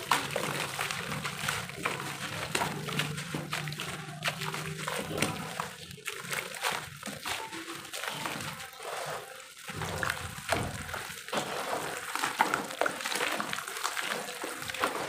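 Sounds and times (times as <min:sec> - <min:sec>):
hands squishing muddy water: 0:00.0 - 0:15.0.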